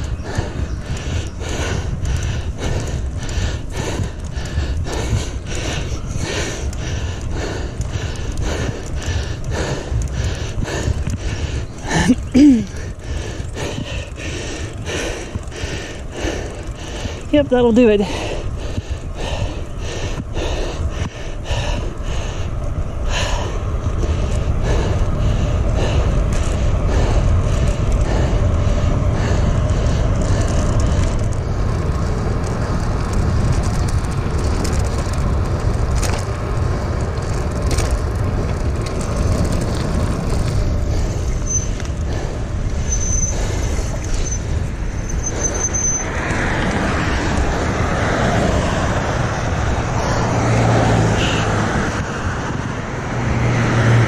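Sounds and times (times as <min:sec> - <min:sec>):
road and traffic noise: 0:00.0 - 0:54.0
wind rushing over microphone: 0:00.0 - 0:54.0.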